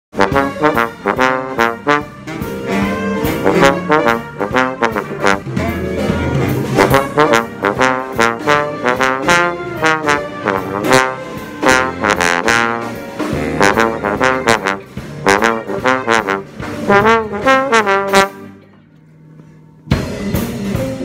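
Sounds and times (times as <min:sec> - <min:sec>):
trombone playing: 0:00.1 - 0:18.7
jazz big band playing: 0:00.1 - 0:18.8, 0:19.9 - 0:21.0.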